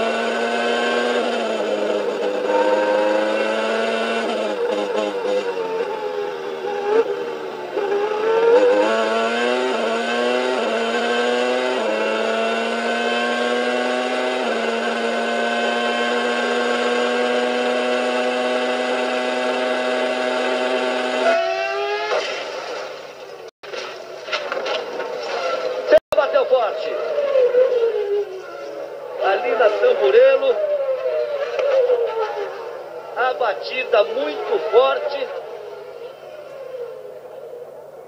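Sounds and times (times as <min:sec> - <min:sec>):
racing car engine at high revs: 0:00.0 - 0:23.5, 0:25.4 - 0:38.0.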